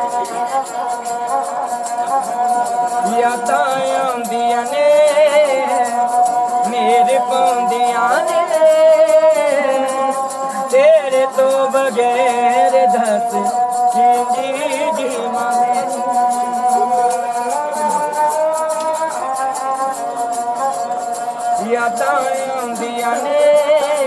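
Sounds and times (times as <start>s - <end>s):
folk string instrument melody: 0.0s - 24.0s.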